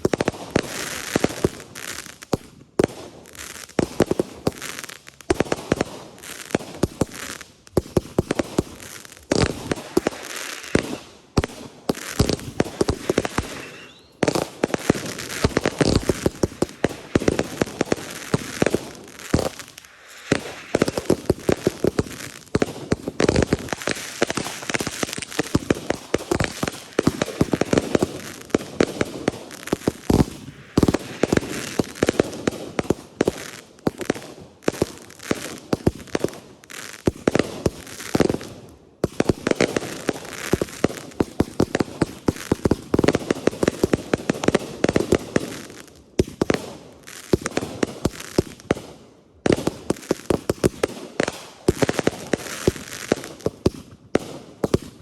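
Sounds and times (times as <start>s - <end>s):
fireworks popping and crackling: 0.0s - 55.0s.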